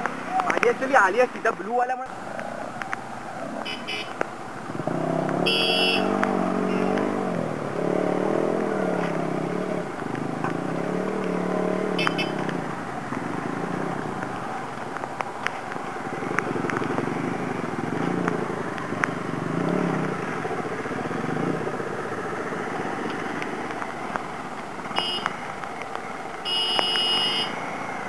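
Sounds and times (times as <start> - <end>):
motorcycle engine revving: 2.1 - 28.0.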